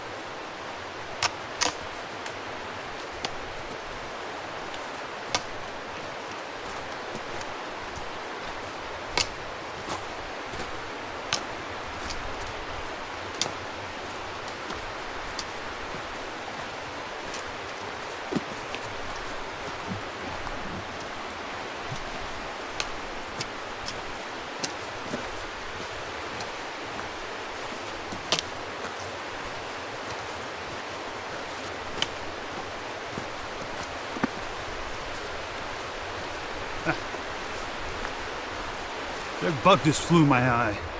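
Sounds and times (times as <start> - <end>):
outdoor hiss: 0.0 - 40.9.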